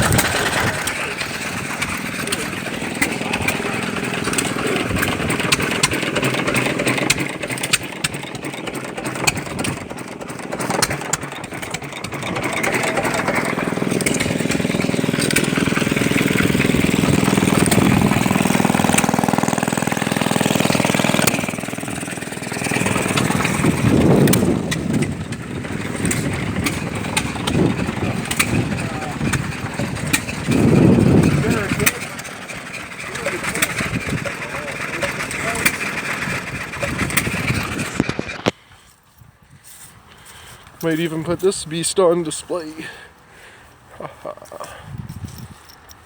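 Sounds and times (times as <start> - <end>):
stationary engine running: 0.0 - 38.5.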